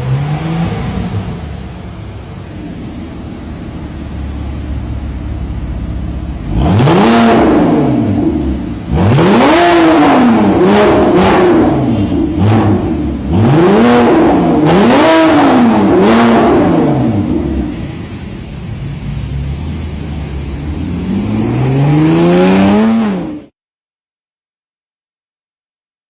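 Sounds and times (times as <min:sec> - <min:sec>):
car engine revving: 0:00.0 - 0:23.5.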